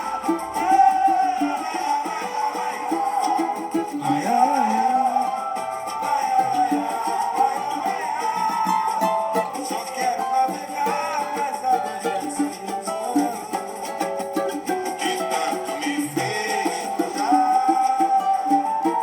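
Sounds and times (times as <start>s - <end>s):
cavaquinho strumming: 0.0s - 19.0s
rhythmic percussion: 0.0s - 19.0s.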